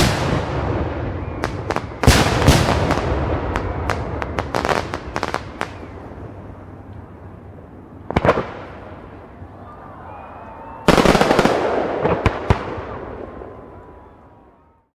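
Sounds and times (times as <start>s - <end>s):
fireworks sharp bangs: 0.0s - 9.5s, 10.8s - 14.2s
fireworks crackling: 0.0s - 14.6s
faint fireworks whistles: 0.0s - 14.9s.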